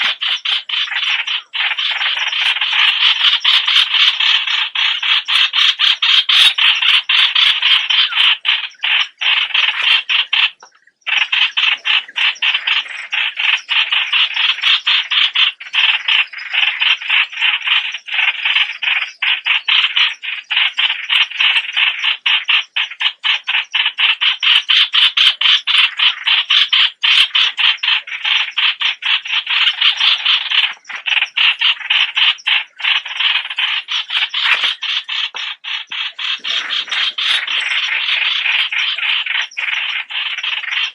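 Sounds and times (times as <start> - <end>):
bird stuttering chatter: 0.0 - 40.9.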